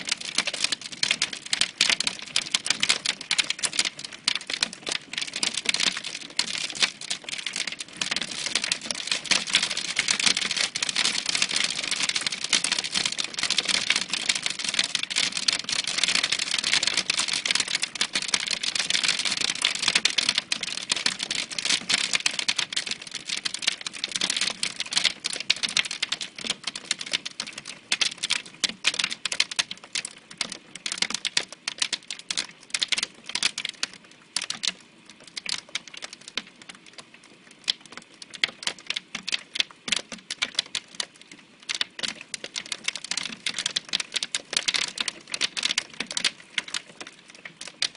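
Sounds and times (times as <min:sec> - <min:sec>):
hailstones clattering against window: 0:00.1 - 0:37.0, 0:37.6 - 0:47.9.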